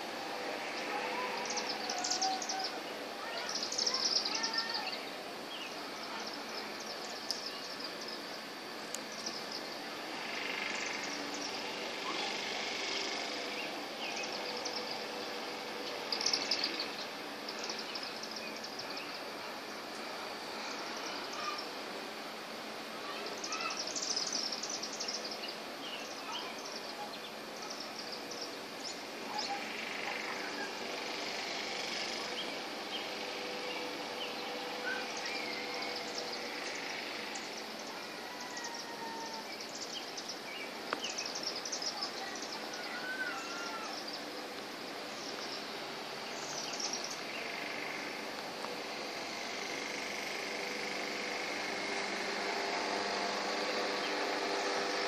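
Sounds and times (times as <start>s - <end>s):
high rapid chittering calls: 0.0s - 55.0s
outdoor background hum: 0.0s - 55.0s.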